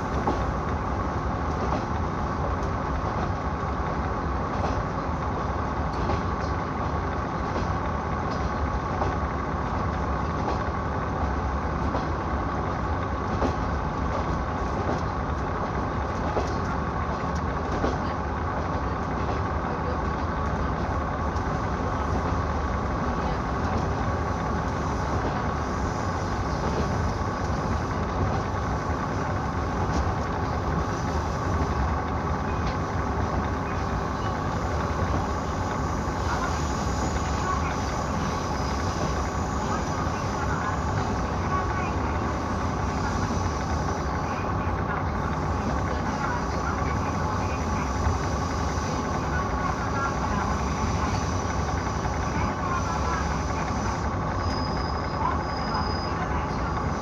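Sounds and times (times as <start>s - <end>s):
diesel railcar running: 0.0s - 57.0s.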